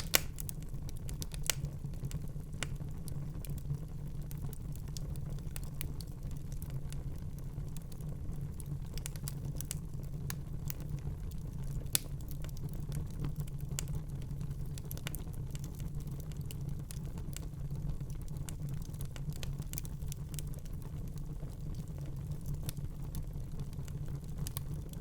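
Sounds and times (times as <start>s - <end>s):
fire crackling and popping: 0.0s - 25.0s
low rumble of fire: 0.0s - 25.0s.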